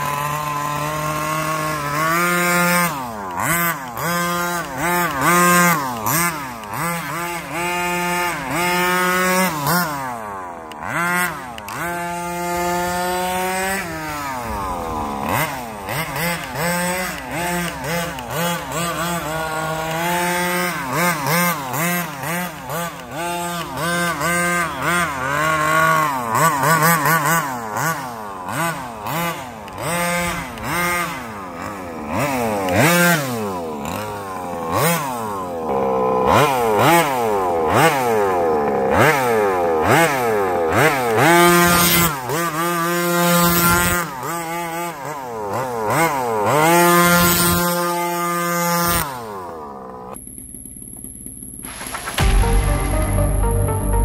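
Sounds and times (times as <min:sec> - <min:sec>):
model truck engine revving: 0:00.0 - 0:53.3.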